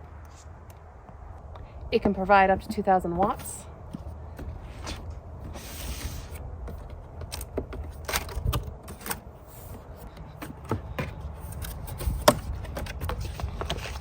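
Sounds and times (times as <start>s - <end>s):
wind rumble on microphone: 0.0s - 10.0s, 10.8s - 14.0s.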